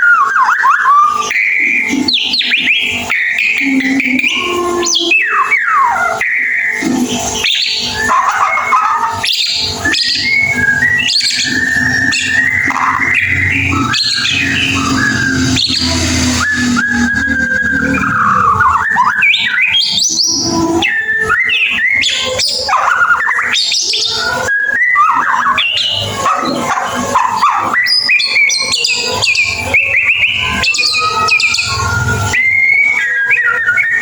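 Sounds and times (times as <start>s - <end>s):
shama bird singing: 0.0s - 34.0s.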